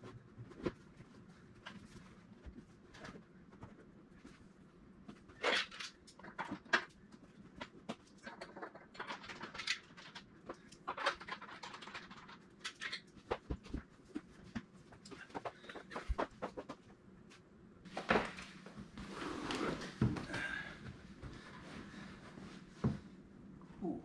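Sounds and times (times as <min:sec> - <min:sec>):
hands and tools rustling and scraping: 0:00.0 - 0:23.2.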